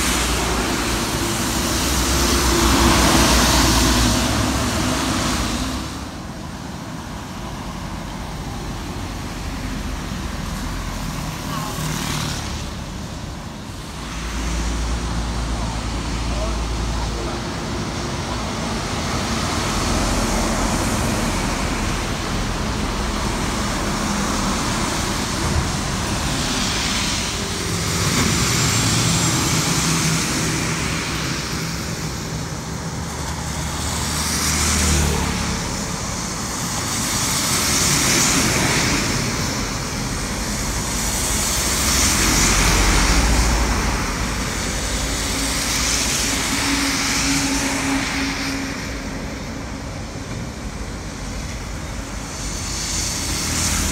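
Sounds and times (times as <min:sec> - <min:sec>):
heavy vehicle engines humming: 0:00.0 - 0:53.9
tyres hissing on wet road: 0:00.0 - 0:53.9.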